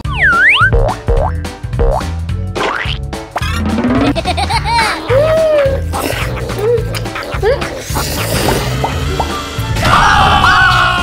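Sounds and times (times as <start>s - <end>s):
bouncy bass line music: 0.0s - 9.8s.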